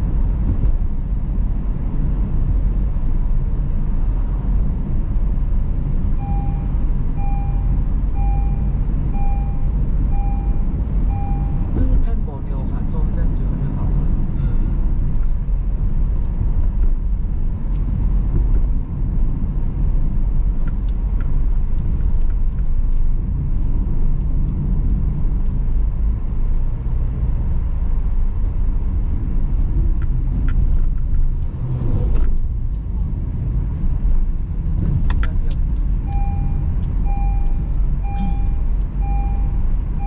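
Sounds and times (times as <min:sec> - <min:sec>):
engine and tyre rumble: 0:00.0 - 0:40.0.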